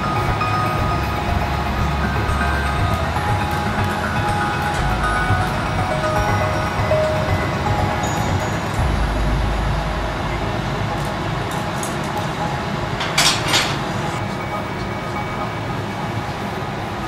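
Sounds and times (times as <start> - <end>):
furnace roaring: 0.0 - 14.4.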